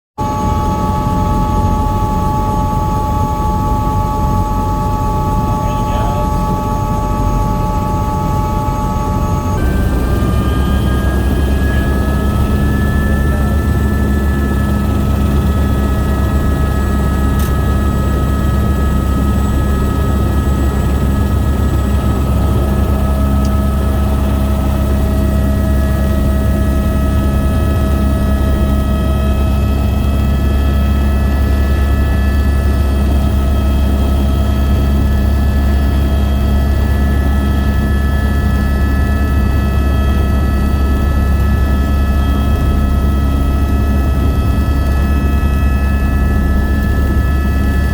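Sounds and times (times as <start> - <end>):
helicopter rotor and engine drone: 0.2 - 47.9
high even whine: 0.2 - 47.9.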